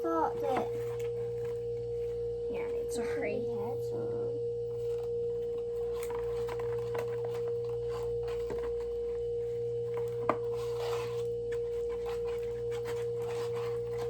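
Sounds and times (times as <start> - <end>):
lower hum: 0.0 - 14.0
steady high hum: 0.0 - 14.0
faint clicks and rustles: 0.4 - 3.0, 4.6 - 14.0.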